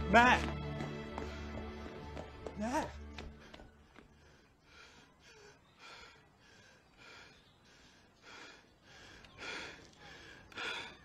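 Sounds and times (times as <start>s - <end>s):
man breathing hard: 0.8s - 11.0s.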